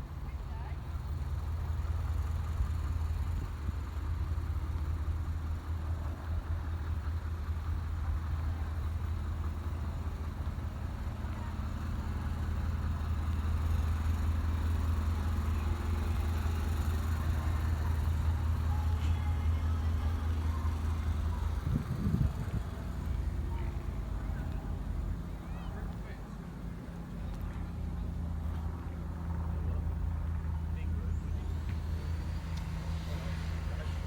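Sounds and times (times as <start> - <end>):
truck diesel engine rumbling: 0.0 - 34.0.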